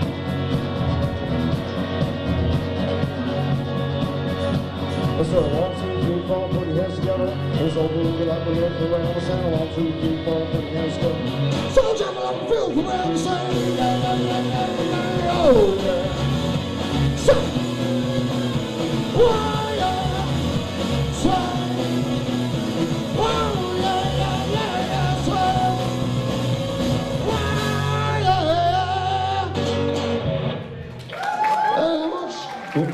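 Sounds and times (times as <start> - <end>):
live rock band with singing: 0.0 - 31.0.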